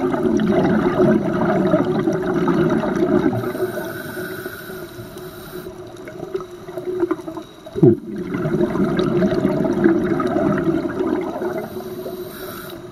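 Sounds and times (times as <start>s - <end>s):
exhaled bubbles rushing underwater: 0.0s - 12.9s.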